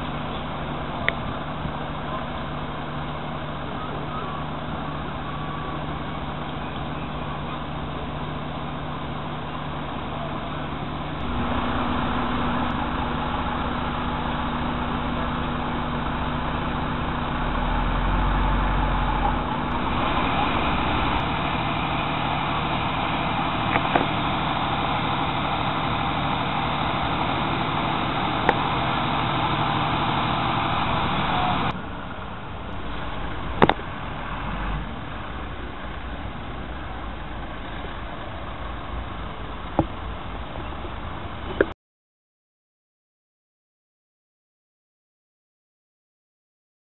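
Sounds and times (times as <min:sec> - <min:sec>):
diesel engines running: 0:00.0 - 0:41.7
street traffic: 0:00.0 - 0:41.8.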